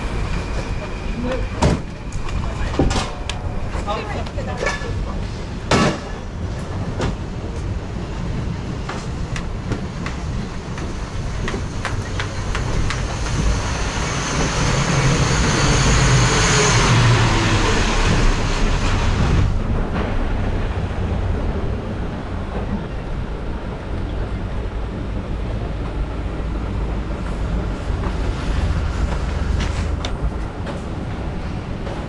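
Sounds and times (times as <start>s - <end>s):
street noise: 0.0s - 32.0s
train passing by: 0.0s - 32.0s.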